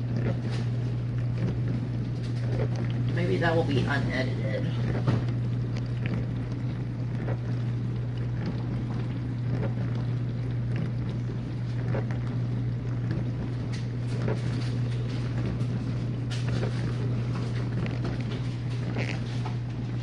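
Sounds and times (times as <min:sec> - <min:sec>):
dishwasher motor hum: 0:00.0 - 0:20.0.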